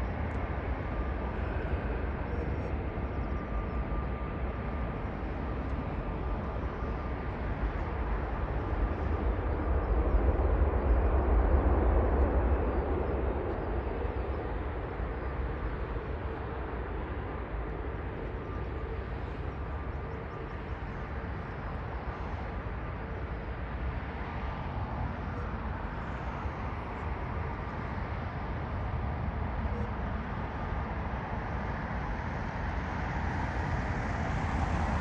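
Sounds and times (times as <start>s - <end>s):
jet airliner engine noise: 0.0s - 35.0s.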